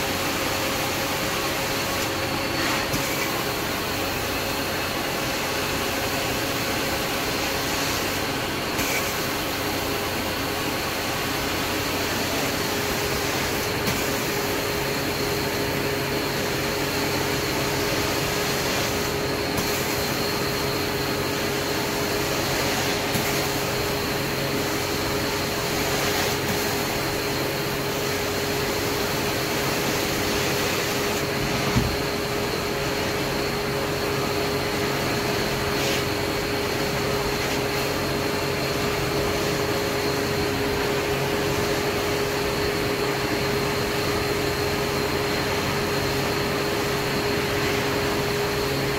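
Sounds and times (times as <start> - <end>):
carpet cleaning machine running: 0.0 - 48.9.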